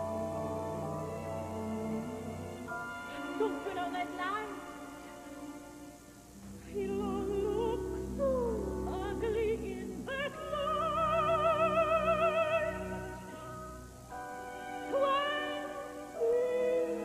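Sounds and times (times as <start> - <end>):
operatic soprano singing: 0.0 - 5.8, 6.5 - 17.0
soft low sustained accompaniment: 0.0 - 17.0.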